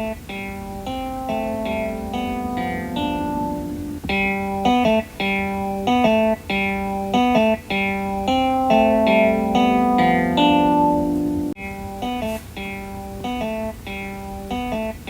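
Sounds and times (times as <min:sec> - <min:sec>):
plucked guitar-like melody: 0:00.0 - 0:15.0.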